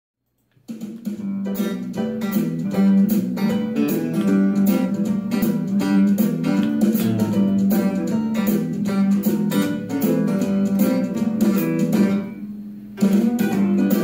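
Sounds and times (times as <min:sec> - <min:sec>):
electric guitar country swing tune: 0:00.7 - 0:14.0.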